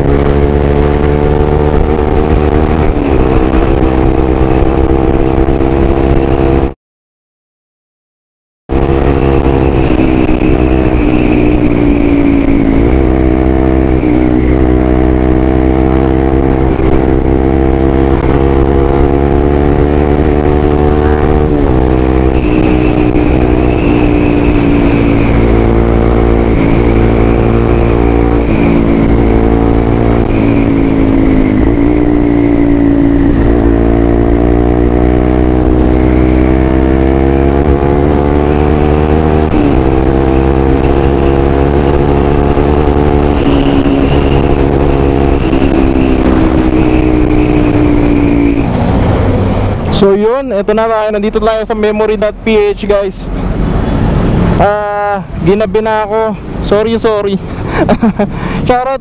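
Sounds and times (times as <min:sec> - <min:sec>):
motorcycle engine accelerating: 0:00.0 - 0:06.7, 0:08.7 - 0:59.0.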